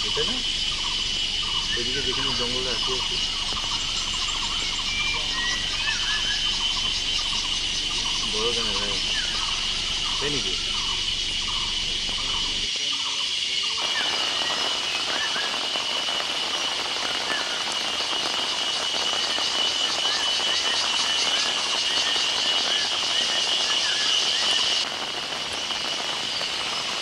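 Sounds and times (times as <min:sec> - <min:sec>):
insect chirping calls: 0:00.0 - 0:27.0
insects droning: 0:00.0 - 0:27.0.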